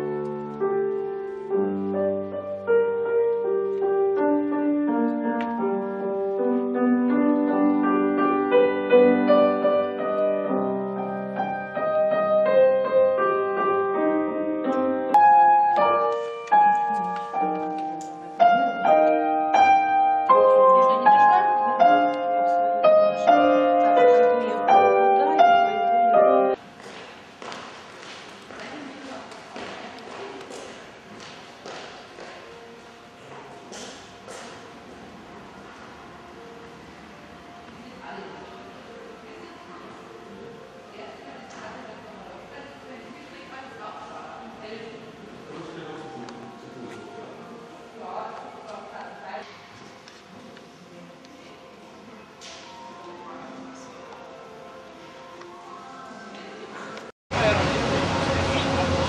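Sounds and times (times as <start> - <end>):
grand piano melody: 0.0 - 59.0.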